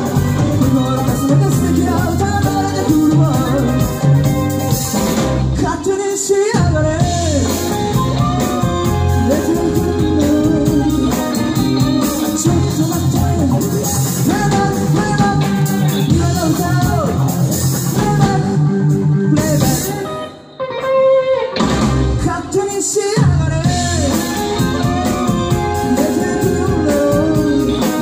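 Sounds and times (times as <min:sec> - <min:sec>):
drums: 0:00.0 - 0:28.0
electric guitar: 0:00.0 - 0:28.0.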